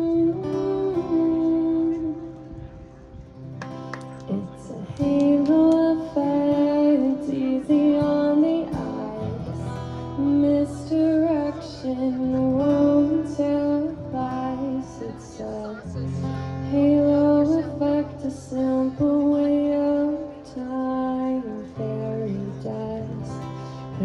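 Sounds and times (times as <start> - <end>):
woman singing: 0.0 - 2.5, 4.3 - 24.0
acoustic guitar: 0.0 - 24.0.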